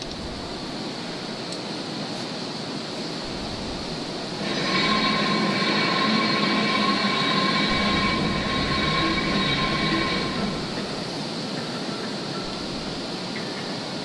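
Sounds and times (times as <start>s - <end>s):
machinery high whine: 0.0s - 14.0s
machinery low hum: 0.0s - 14.0s.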